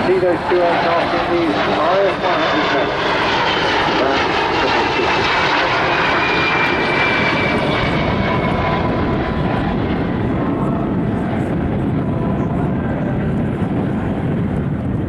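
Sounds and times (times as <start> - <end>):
high turbine whine: 0.0 - 15.0
jet planes flying past: 0.0 - 15.0.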